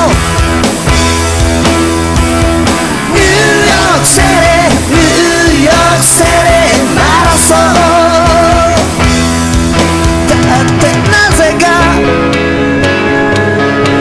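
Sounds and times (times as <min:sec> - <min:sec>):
rock song with full band: 0:00.0 - 0:14.0.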